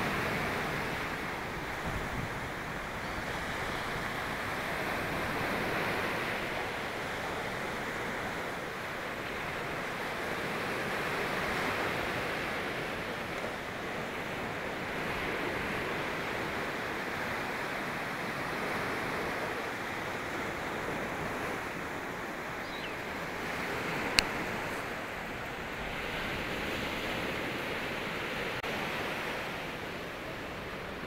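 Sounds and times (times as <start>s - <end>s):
waves breaking on beach: 0.0s - 31.0s.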